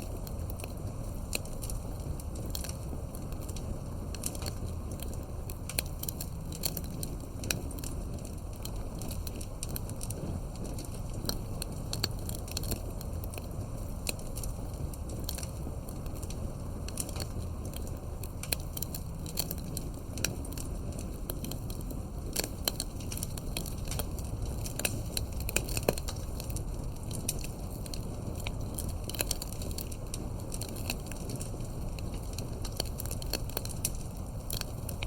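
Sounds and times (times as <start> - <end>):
campfire burning rumble: 0.0 - 35.0
wood popping and snapping: 0.0 - 35.0.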